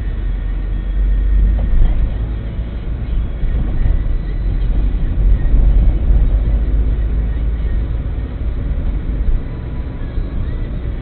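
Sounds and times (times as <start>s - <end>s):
car engine accelerating: 0.0s - 11.0s
road rumble: 0.0s - 11.0s.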